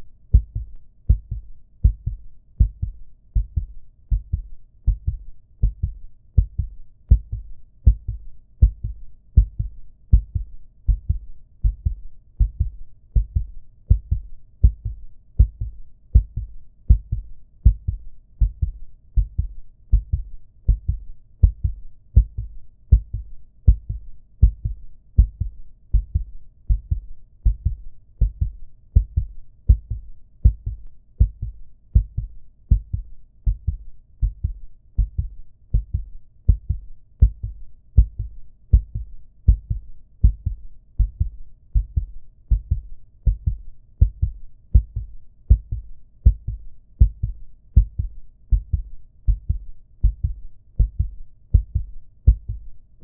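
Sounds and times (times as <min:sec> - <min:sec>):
heartbeat lub-dub: 0:00.3 - 0:52.9.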